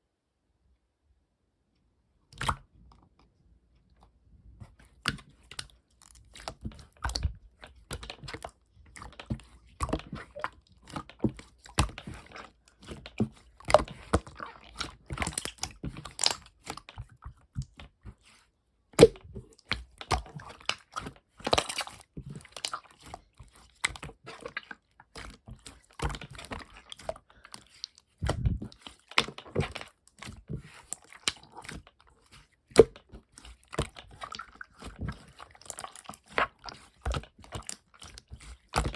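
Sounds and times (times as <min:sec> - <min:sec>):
slime squished by hand: 0:02.3 - 0:02.7, 0:04.6 - 0:38.9.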